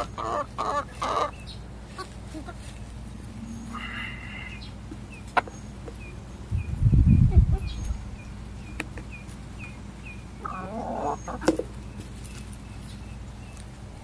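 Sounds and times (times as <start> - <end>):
chickens clucking: 0.0 - 14.0
steady low hum: 0.0 - 14.0.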